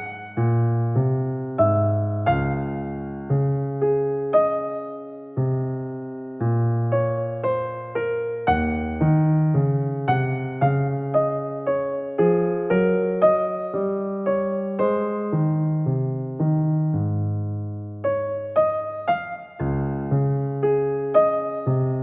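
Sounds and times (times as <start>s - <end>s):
slow keyboard melody: 0.0s - 22.0s.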